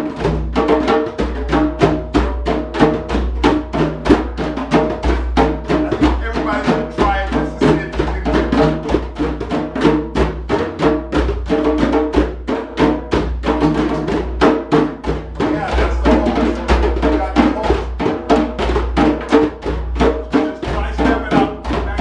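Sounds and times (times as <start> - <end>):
djembes drumming together: 0.0 - 22.0.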